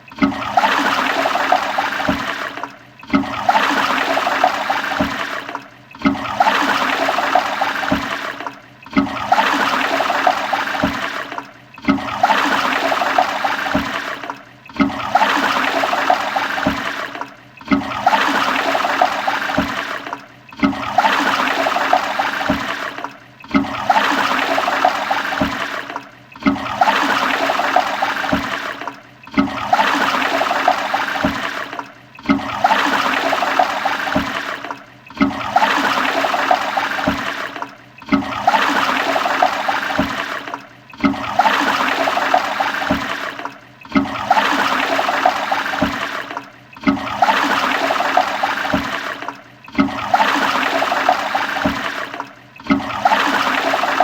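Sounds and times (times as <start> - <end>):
toilet flushing: 0.0 - 54.0.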